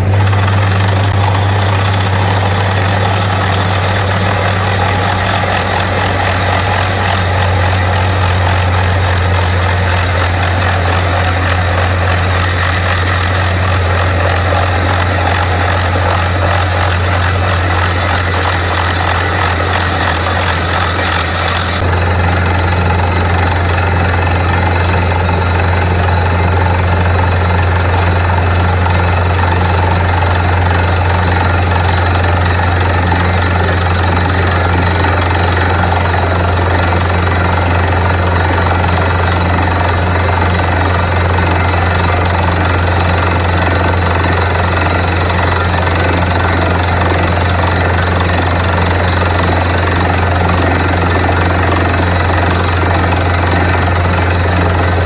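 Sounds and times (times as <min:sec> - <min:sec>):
drilling rig low hum: 0:00.0 - 0:55.0.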